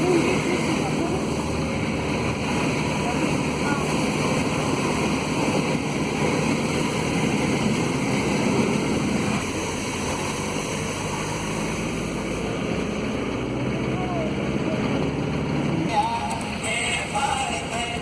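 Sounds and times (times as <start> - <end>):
floodwater rushing: 0.0 - 18.0
vehicle engine running: 0.0 - 18.0.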